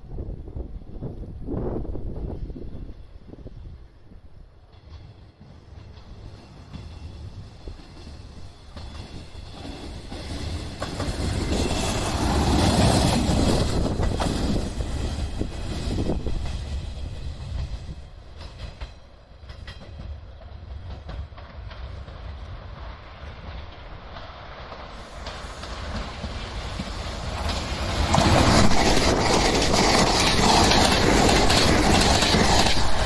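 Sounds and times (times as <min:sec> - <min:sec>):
diesel railcar rumbling past: 0:00.0 - 0:33.0
distant train rumble: 0:00.0 - 0:33.0
wheels clicking over rail joints: 0:04.6 - 0:33.0.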